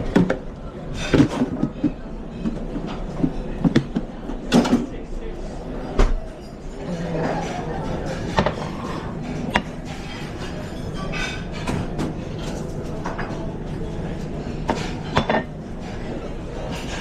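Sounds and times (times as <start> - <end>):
dishes and utensils clinking: 0.0 - 17.0.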